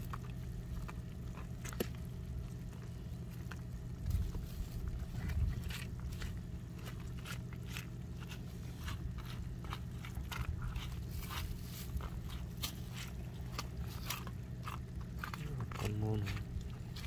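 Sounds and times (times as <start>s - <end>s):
crackles of wet fish being pushed: 0.0s - 17.0s
steady low hum: 0.0s - 17.0s.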